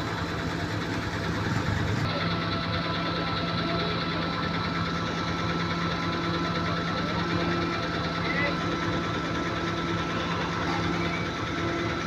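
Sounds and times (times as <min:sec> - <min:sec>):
construction machinery engine hum: 0:00.0 - 0:12.0.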